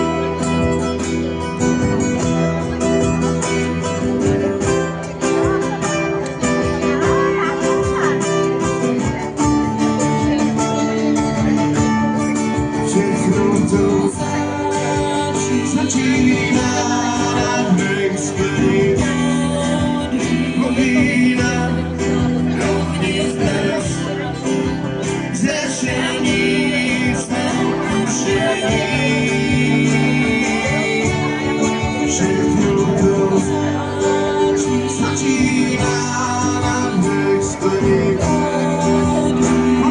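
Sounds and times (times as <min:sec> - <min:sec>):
guitar: 0:00.0 - 0:39.9
live band playing: 0:00.0 - 0:39.9.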